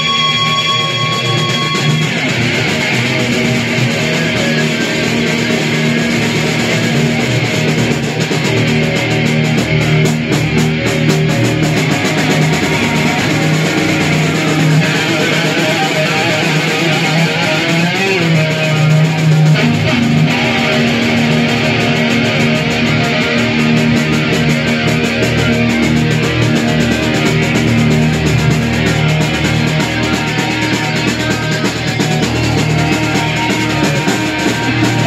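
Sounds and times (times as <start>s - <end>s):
distorted electric guitars: 0.0s - 35.0s.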